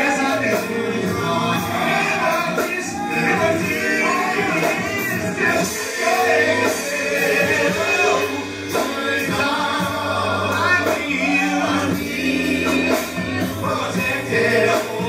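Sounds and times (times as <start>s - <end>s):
gospel band with guitar: 0.0s - 15.0s
people singing: 0.0s - 15.0s.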